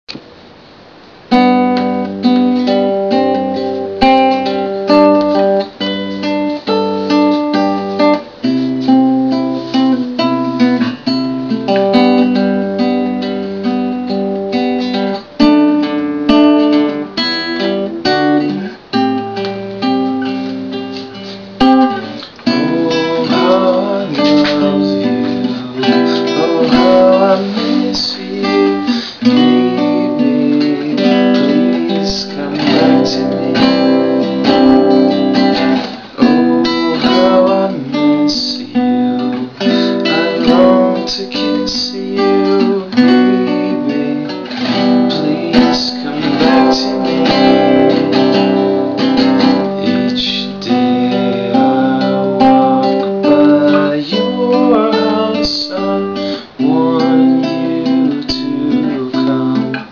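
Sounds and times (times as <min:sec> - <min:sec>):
classical guitar fingerstyle: 0:01.3 - 0:59.9.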